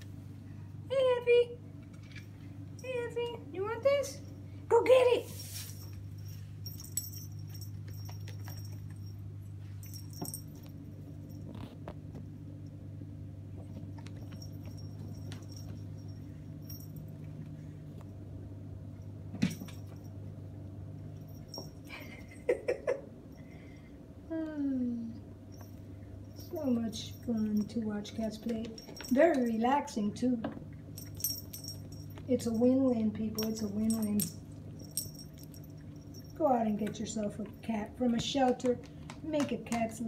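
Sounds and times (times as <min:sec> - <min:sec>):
low background hum: 0:00.0 - 0:40.0.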